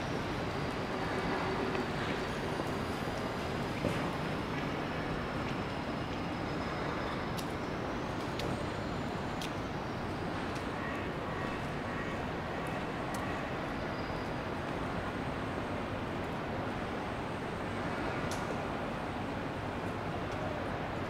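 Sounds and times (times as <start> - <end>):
rain: 0.0 - 21.0
street traffic: 0.0 - 21.0.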